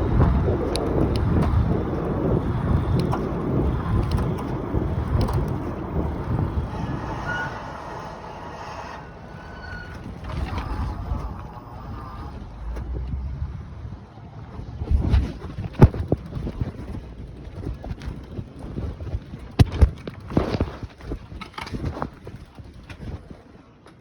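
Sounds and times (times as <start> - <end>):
muffled e-bike motor rumble: 0.0 - 23.4
wind and road noise: 0.0 - 24.0.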